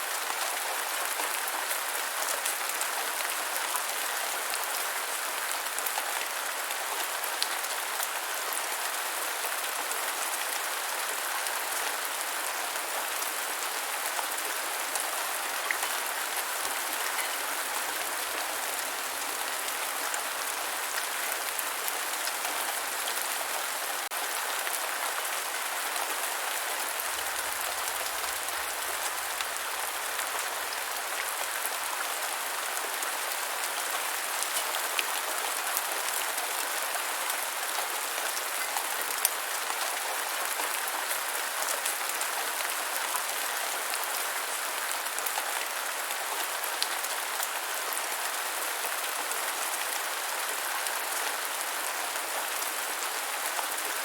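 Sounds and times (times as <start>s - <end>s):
rain falling on ground: 0.0s - 54.0s.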